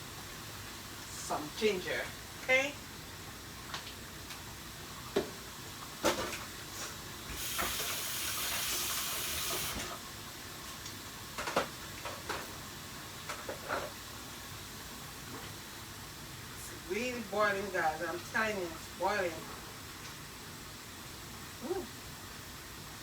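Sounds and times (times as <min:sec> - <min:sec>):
boiling pot hissing: 0:00.0 - 0:23.0.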